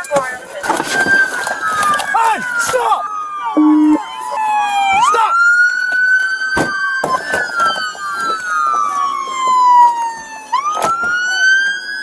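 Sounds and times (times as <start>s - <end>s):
police sirens wailing: 0.0s - 12.0s.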